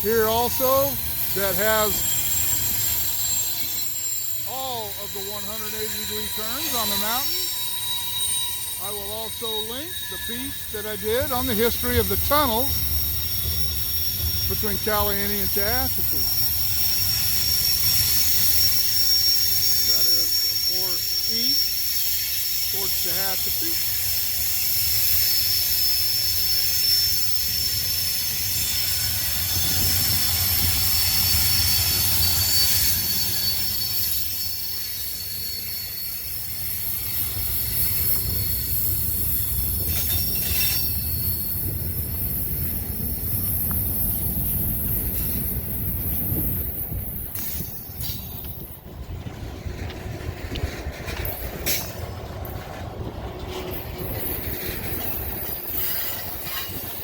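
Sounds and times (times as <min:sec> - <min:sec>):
train rumble: 0:00.0 - 0:57.0
train wheel flanges squealing: 0:00.0 - 0:57.0
train wheel clicks: 0:10.5 - 0:57.0.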